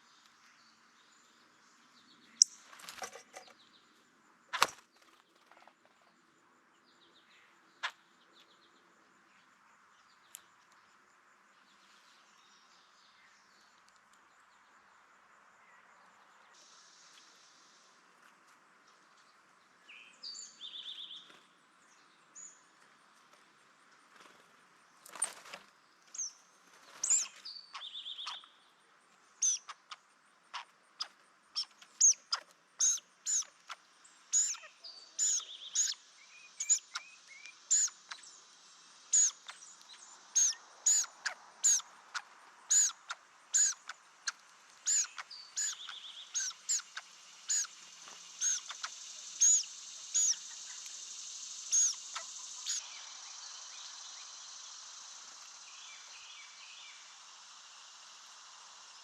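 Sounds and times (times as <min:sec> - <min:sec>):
small birds chirping: 0:00.0 - 0:14.7, 0:15.7 - 0:59.0.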